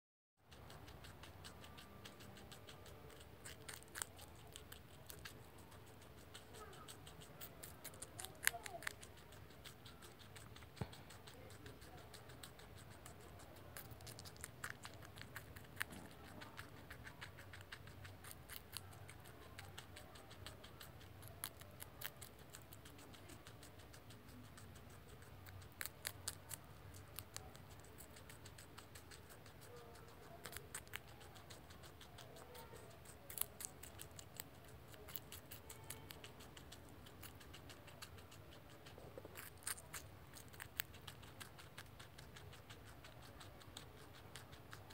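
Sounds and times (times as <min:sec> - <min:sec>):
guinea pig crunching celery: 0:00.4 - 0:44.9.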